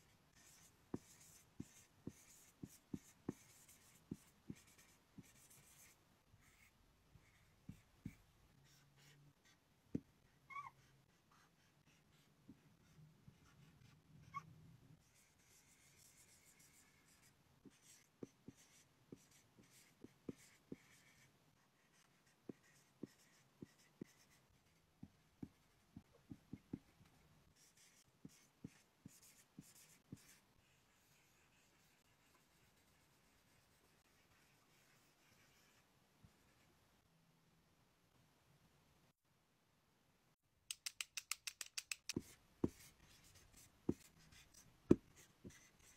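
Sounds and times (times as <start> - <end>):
marker writing on whiteboard: 0.3 - 35.8, 42.0 - 45.9.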